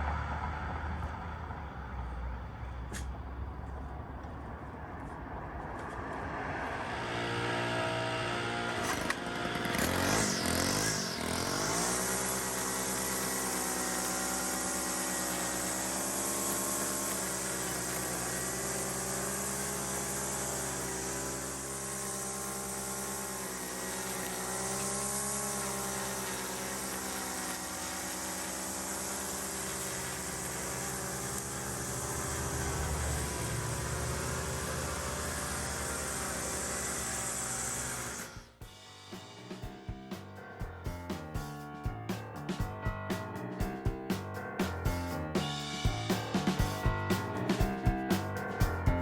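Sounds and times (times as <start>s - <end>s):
small petrol engine running: 6.8s - 49.0s.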